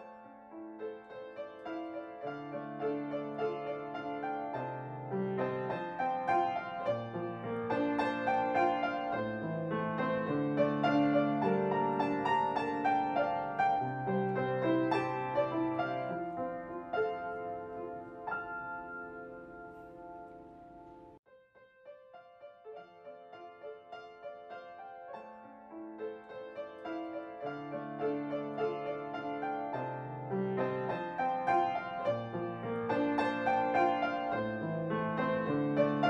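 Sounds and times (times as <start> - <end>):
gentle piano music: 0.0 - 36.0.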